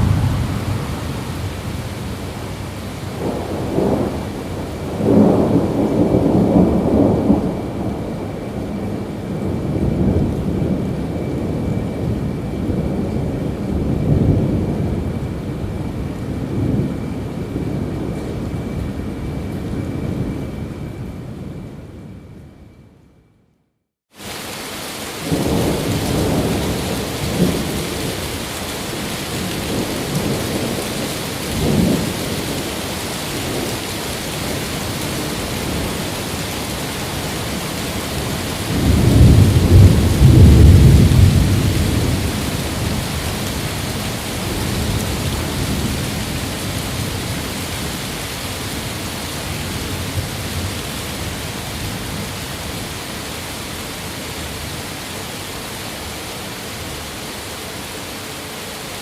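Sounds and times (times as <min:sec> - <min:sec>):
steady rain: 0:00.0 - 0:22.4, 0:24.1 - 0:59.0
rolling thunder: 0:00.0 - 0:22.6, 0:25.0 - 0:53.0.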